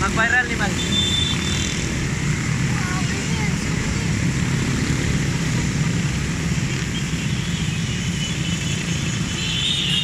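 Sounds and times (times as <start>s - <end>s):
motorbikes riding past: 0.0s - 9.3s.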